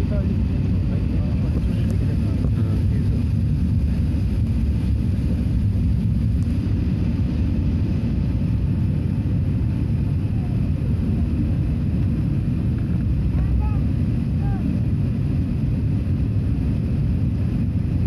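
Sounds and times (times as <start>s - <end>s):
jet engine rumble in cabin: 0.0s - 18.0s.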